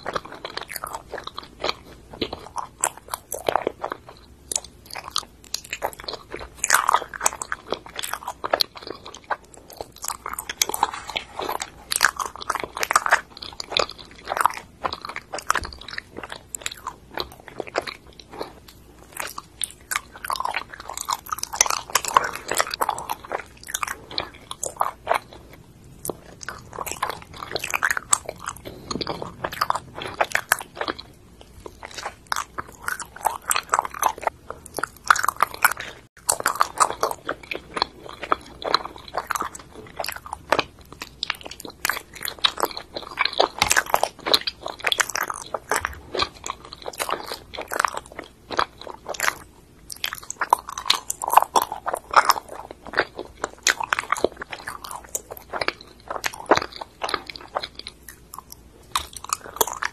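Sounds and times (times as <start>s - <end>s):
wet smacking chewing sounds: 0.0s - 59.9s.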